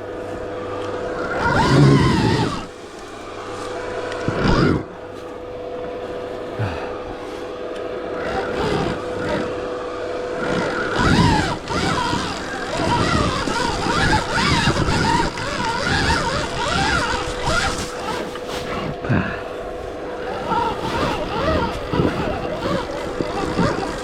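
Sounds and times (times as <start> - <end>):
dirt bike riding noise: 0.0 - 24.0
electric motor whine: 0.0 - 24.0.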